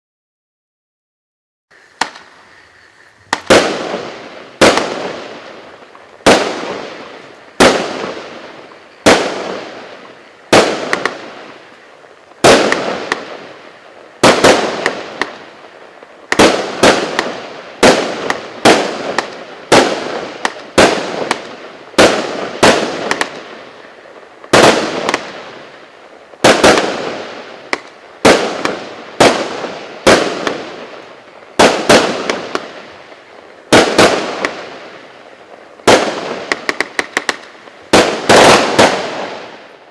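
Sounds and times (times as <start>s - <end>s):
fireworks bangs: 1.7s - 39.9s.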